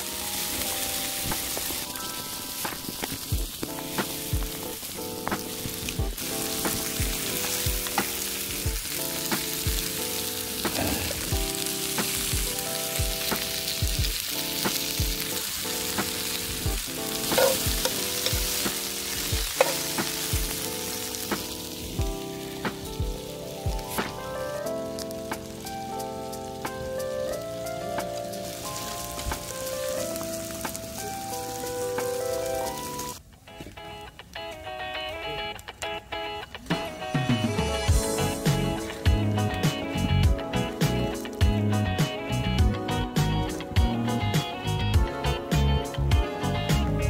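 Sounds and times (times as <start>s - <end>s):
beef sizzling in a pan: 0.0s - 33.2s, 36.8s - 47.0s
background music with beat: 0.0s - 47.0s.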